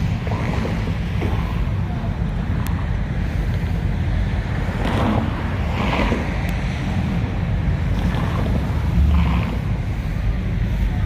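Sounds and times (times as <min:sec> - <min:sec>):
car engines rumbling: 0:00.0 - 0:11.0
wind buffeting microphone: 0:00.0 - 0:11.0.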